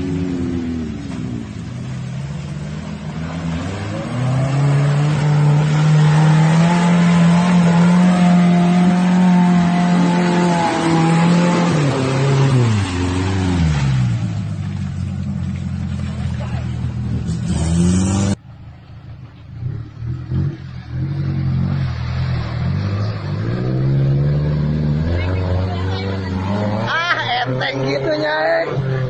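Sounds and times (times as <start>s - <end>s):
vehicle engine revving: 0.0s - 18.6s, 19.5s - 29.0s.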